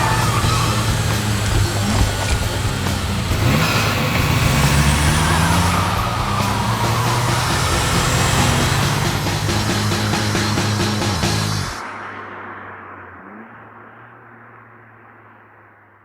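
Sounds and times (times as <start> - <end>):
car engine revving under load: 0.0 - 16.0
high whine gliding down: 0.0 - 16.0.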